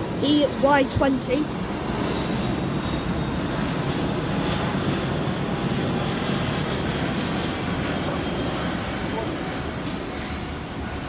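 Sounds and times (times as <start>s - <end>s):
jet airliner taking off: 0.0s - 11.0s.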